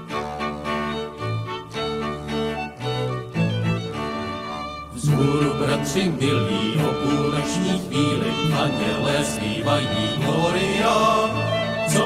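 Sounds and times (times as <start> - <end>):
bowed strings slow melody: 0.0 - 12.0.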